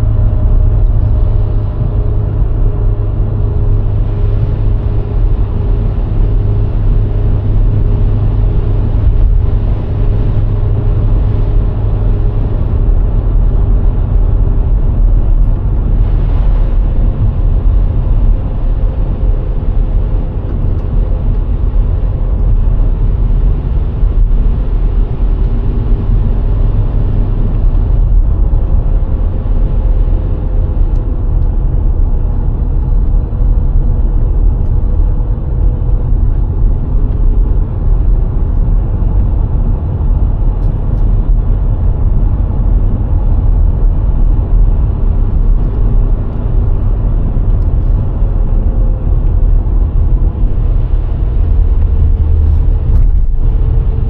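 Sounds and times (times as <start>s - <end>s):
car engine running: 0.0s - 54.0s
tyre and road rumble: 0.0s - 54.0s.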